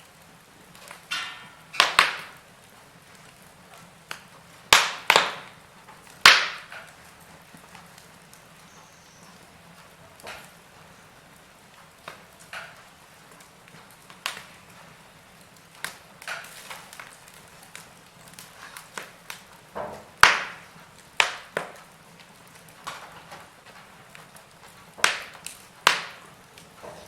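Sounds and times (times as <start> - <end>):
faint steady hiss: 0.0 - 27.0
fire crackling and popping: 0.0 - 27.0.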